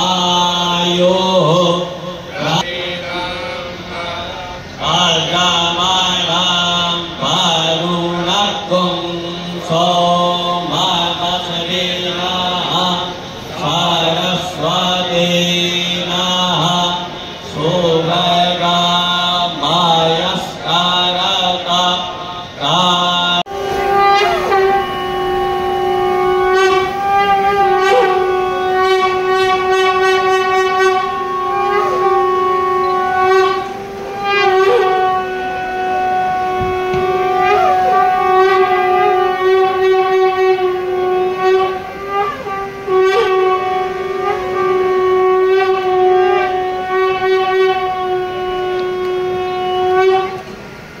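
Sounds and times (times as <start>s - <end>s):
conch shells blown in a drone: 0.0s - 51.0s.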